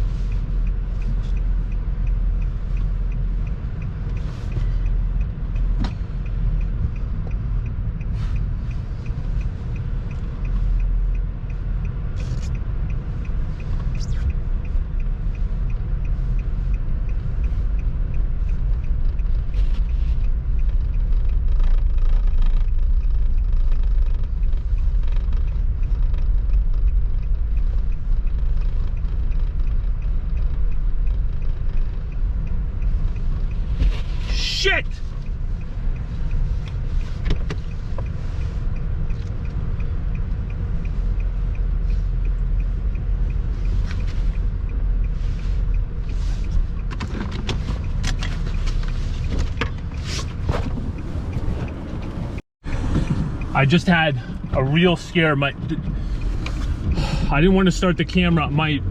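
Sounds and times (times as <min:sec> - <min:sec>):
engine and tyres rumbling in snow: 0:00.0 - 0:58.9
faint regular ticking: 0:00.0 - 0:58.9.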